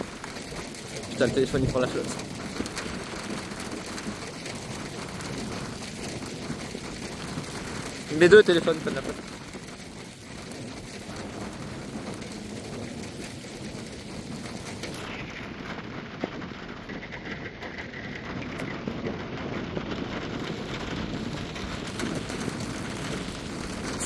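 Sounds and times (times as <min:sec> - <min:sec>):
rain falling steadily: 0:00.0 - 0:24.0
raindrop clicks: 0:00.0 - 0:24.0.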